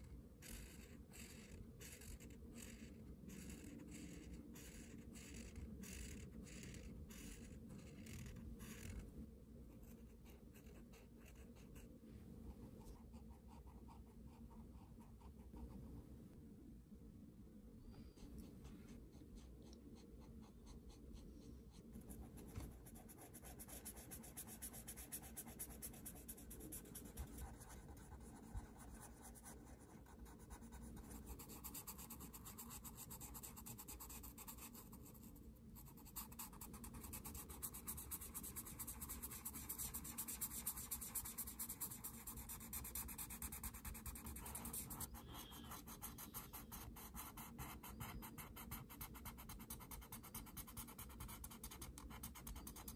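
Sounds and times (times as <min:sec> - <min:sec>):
marker scratching on paper: 0:00.4 - 0:09.0, 0:18.0 - 0:52.9.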